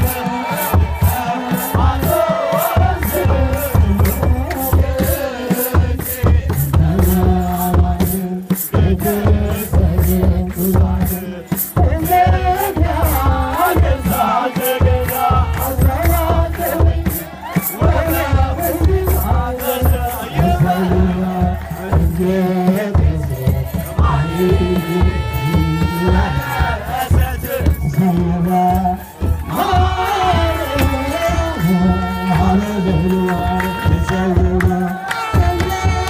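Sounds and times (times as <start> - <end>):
hand drums: 0.0 - 36.0
male choir chanting: 0.0 - 36.0.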